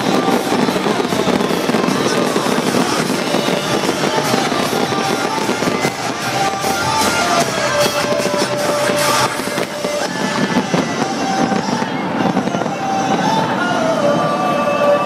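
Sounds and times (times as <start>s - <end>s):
fireworks crackling and popping: 0.0s - 15.0s
loud music: 0.0s - 15.0s.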